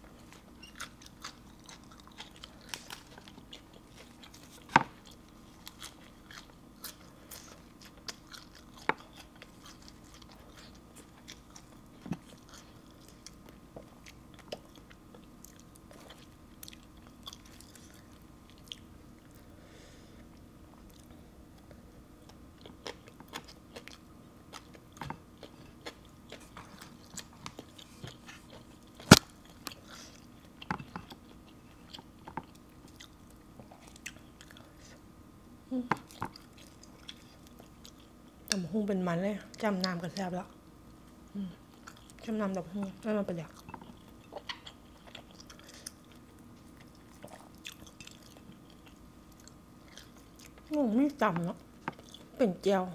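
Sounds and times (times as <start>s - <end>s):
chewing crisp salad: 0.2s - 19.5s, 20.2s - 35.0s, 36.0s - 38.6s, 39.5s - 52.4s.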